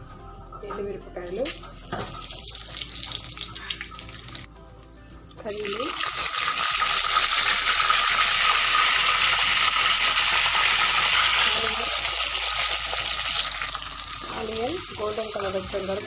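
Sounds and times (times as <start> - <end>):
hot oil sizzling: 1.5 - 4.5, 5.4 - 16.0.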